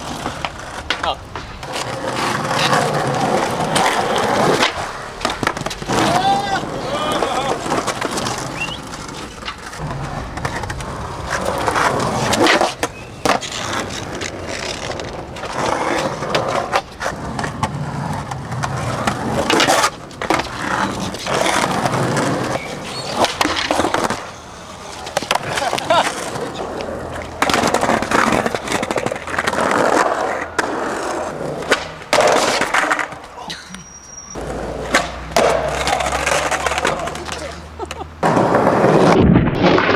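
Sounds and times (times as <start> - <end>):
skateboard clacks: 0.0 - 33.4, 34.4 - 39.9
skateboards rolling on asphalt: 0.0 - 39.9.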